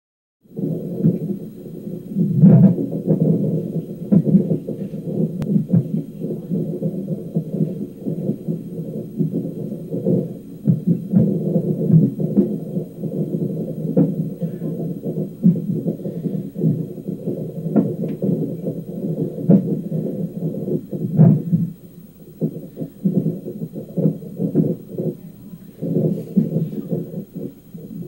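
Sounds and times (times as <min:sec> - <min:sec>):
steady low hum: 0:00.4 - 0:28.0.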